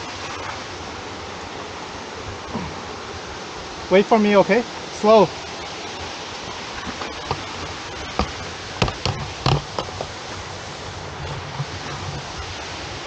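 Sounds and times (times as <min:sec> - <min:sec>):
rushing falling water: 0:00.0 - 0:13.0.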